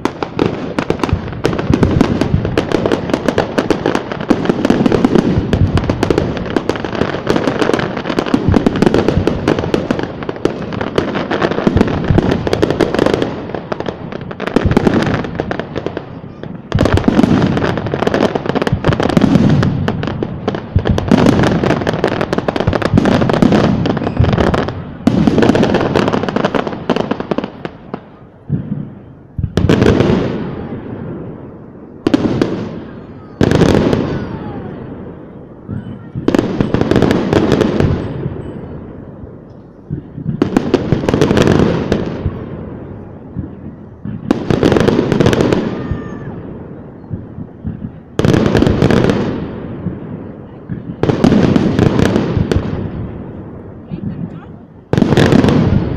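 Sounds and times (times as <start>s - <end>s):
fireworks booming: 0.0s - 55.9s
fireworks crackling: 0.0s - 55.9s.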